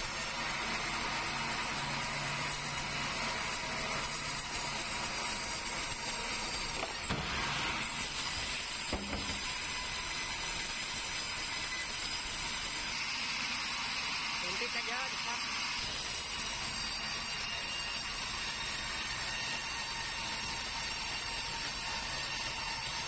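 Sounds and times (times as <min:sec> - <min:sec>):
sawmill machinery sawing timber: 0:00.0 - 0:23.0.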